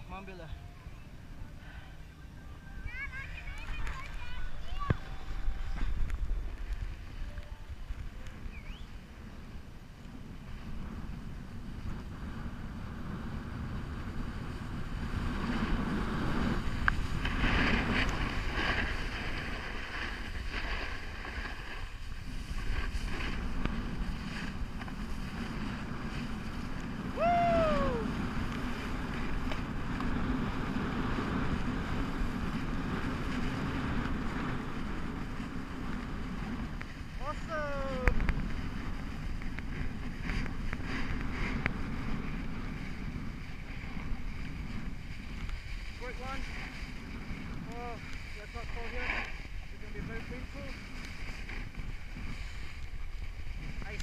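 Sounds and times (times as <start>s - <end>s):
wind on microphone: 0.0s - 54.0s
snowboard sliding over snow: 2.9s - 54.0s.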